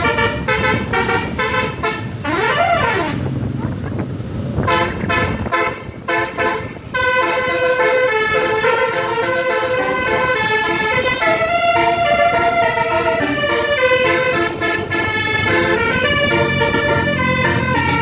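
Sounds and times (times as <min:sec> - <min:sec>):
musical air horn melody: 0:00.0 - 0:03.3, 0:04.6 - 0:18.0.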